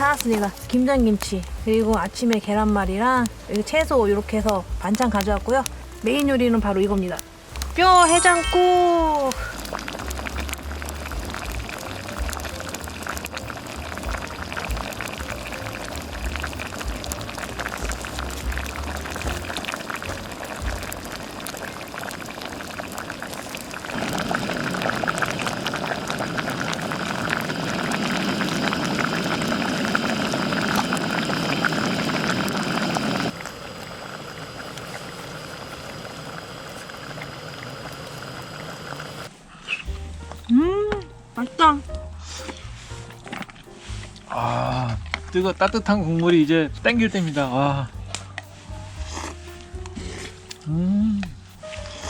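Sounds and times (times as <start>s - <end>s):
soup boiling in a pot: 0.0s - 40.4s, 41.8s - 52.0s.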